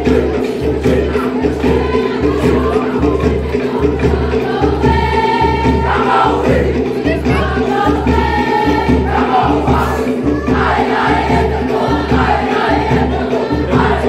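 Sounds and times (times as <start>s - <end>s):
low drum beat: 0.0s - 14.0s
young voices singing in chorus: 0.0s - 14.0s.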